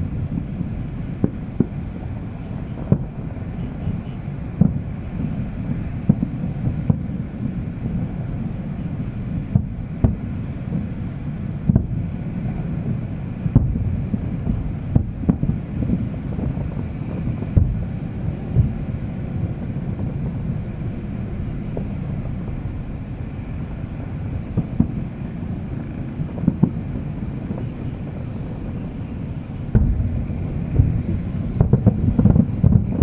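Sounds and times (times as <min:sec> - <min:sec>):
distant fireworks bangs: 0:00.0 - 0:33.0
steady low rumble: 0:00.0 - 0:33.0.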